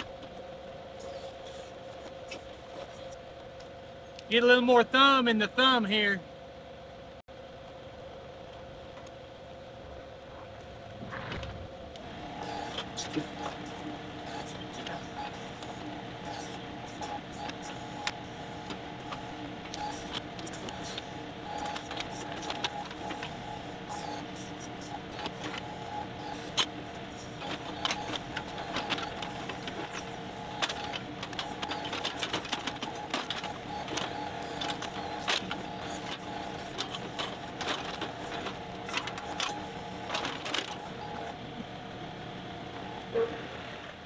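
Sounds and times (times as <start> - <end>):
tractor engine and hydraulics: 0.0 - 4.5, 10.3 - 44.0.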